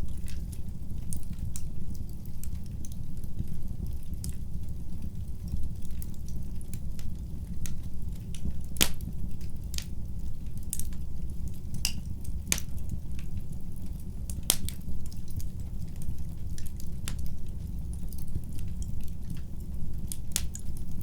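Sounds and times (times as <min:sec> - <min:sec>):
fireplace fire crackling and popping: 0:00.0 - 0:21.0
low rumble of flames: 0:00.0 - 0:21.0.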